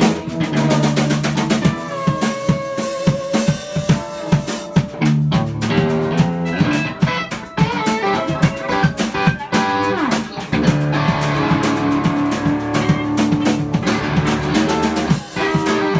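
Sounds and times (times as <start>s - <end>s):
drum kit steady beat: 0.0s - 15.9s
electric guitars playing: 0.0s - 15.9s.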